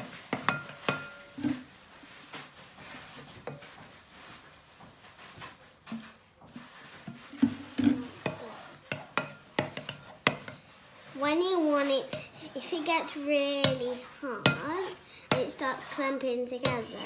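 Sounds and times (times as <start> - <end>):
slime being stirred: 0.0 - 17.0.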